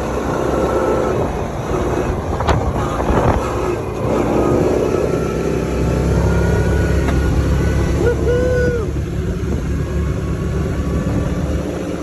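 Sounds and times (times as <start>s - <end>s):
steady rumbling noise: 0.0s - 12.0s
wind buffeting microphone: 0.0s - 12.0s.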